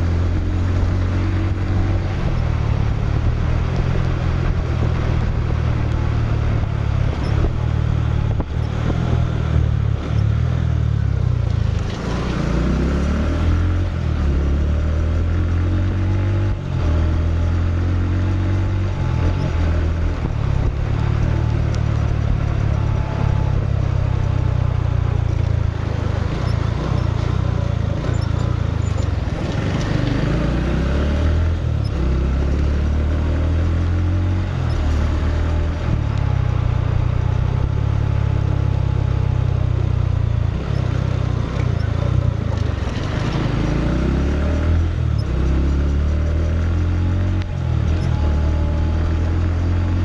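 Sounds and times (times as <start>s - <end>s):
motorcycle engine running: 0.0s - 50.0s
road and wind noise: 0.0s - 50.0s.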